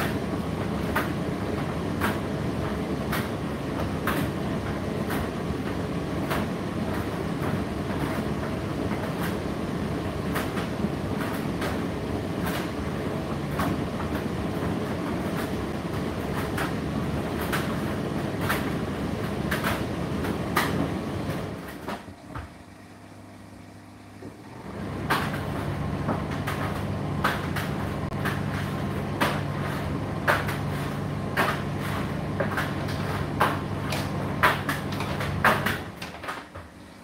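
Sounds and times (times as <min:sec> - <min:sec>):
tumble dryer load knocking: 0:00.0 - 0:22.5, 0:24.2 - 0:36.7
dryer hum: 0:00.0 - 0:37.0.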